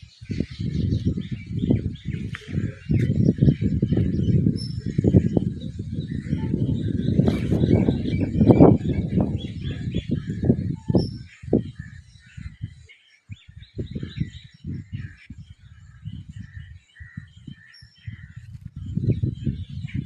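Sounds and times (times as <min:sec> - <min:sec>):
low rumbling on microphone: 0:00.0 - 0:20.0
small birds chirping: 0:00.0 - 0:20.0.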